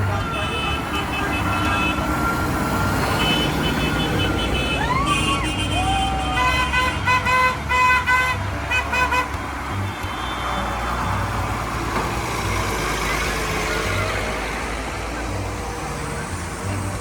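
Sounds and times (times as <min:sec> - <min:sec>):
passing vehicles rumble: 0:00.0 - 0:17.0
tractor engines running: 0:00.0 - 0:17.0.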